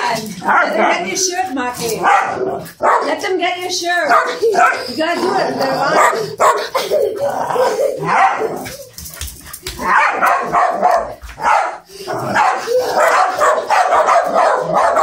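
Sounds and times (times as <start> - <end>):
dogs barking in play: 0.0 - 15.0.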